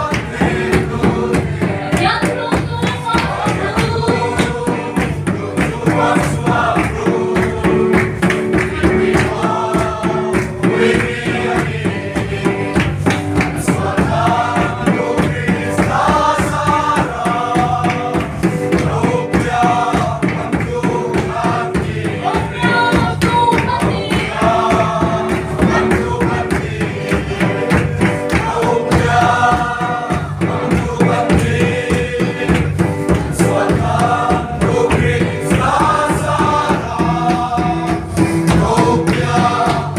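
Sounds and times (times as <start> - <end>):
group singing a hymn: 0.0 - 39.9
instrumental accompaniment with beat: 0.0 - 39.9.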